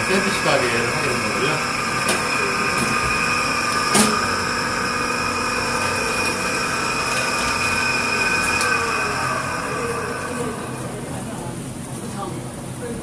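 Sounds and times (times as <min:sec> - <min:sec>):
high whining tones: 0:00.0 - 0:12.1
machine hum: 0:00.0 - 0:12.8.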